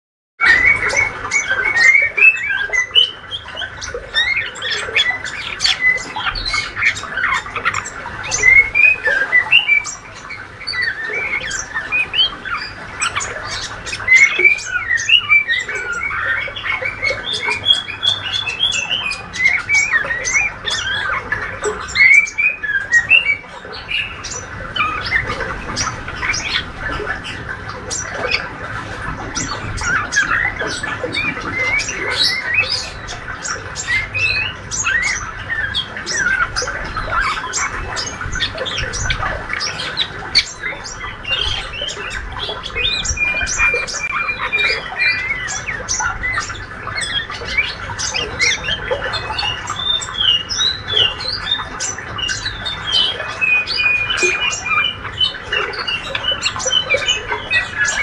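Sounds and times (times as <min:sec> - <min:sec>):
young songbird twittering: 0:00.4 - 0:58.0.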